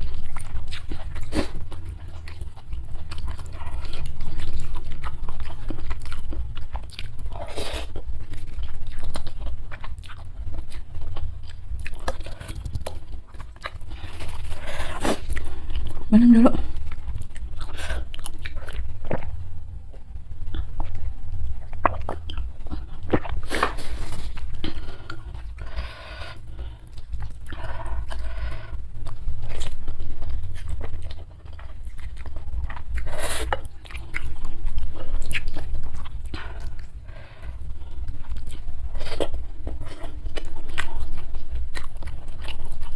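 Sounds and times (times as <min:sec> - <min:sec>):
person chewing crunchy food: 0:00.0 - 0:42.9
steady low hum: 0:00.0 - 0:42.9.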